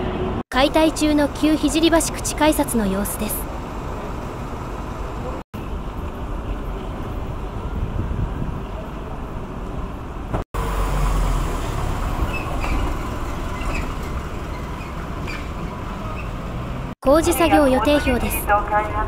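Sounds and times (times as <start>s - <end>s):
street traffic noise: 0.0s - 19.0s
passing vehicle rumble: 3.2s - 19.0s.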